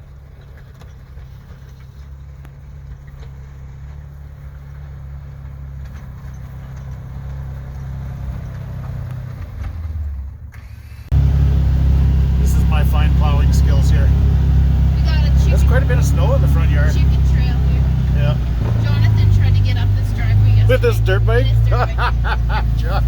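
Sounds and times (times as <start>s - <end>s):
snowplow engine droning: 0.0s - 23.0s.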